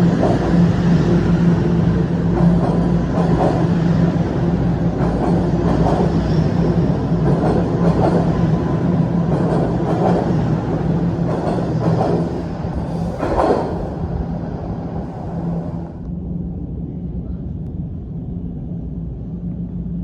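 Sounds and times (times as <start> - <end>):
subway train low hum: 0.0 - 20.0.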